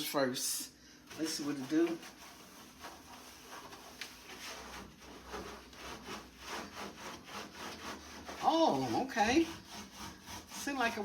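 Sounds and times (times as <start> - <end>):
sponge rubbing strokes: 1.0 - 11.0.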